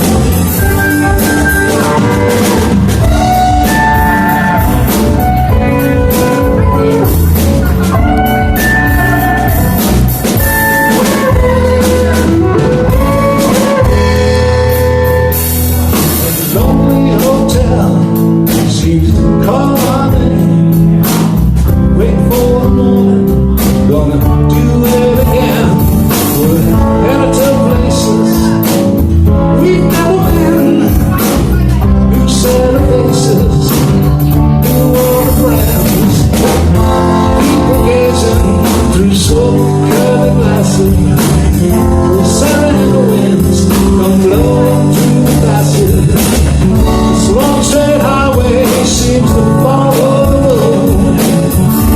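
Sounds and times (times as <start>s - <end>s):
bending lead guitar lines: 0.0s - 51.9s
live blues band: 0.0s - 51.9s.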